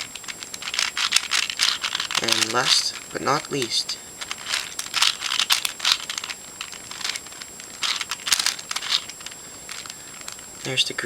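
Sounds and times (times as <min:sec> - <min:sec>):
puzzle cube clicking: 0:00.0 - 0:10.5.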